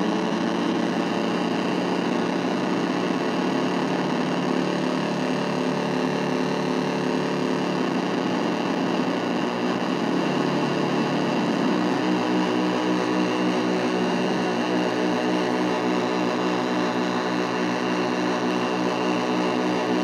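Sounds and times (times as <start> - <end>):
buzzing synthesizer drone: 0.0 - 20.0.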